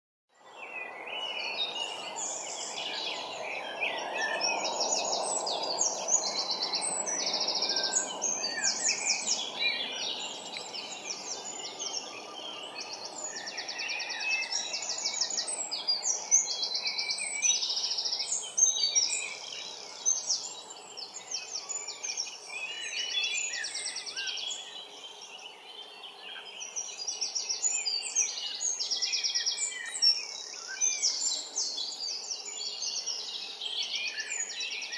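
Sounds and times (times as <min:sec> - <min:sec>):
songbirds singing: 0:00.3 - 0:34.9.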